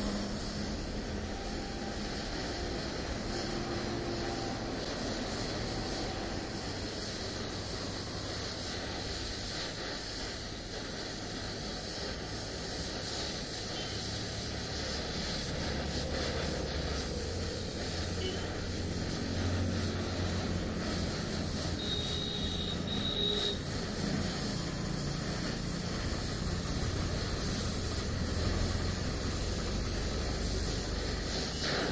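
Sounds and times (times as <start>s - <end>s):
welding torch flame hissing: 0.0s - 31.9s.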